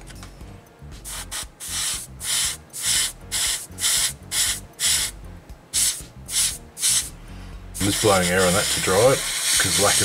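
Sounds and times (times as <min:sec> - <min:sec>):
airbrush hissing bursts: 0:01.0 - 0:05.2, 0:05.8 - 0:10.0.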